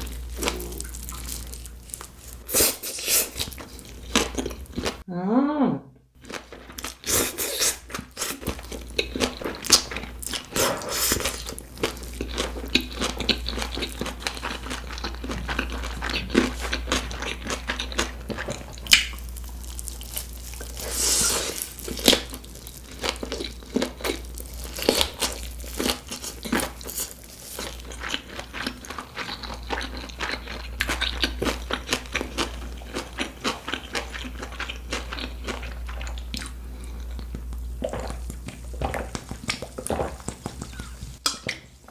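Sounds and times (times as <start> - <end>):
close-miked chewing: 0.0 - 5.0, 6.3 - 41.6.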